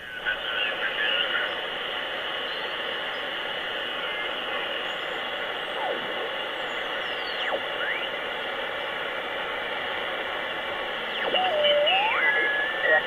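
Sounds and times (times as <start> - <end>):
radio band hiss: 0.0 - 13.0
sliding radio whistles: 0.4 - 9.1, 11.0 - 13.0.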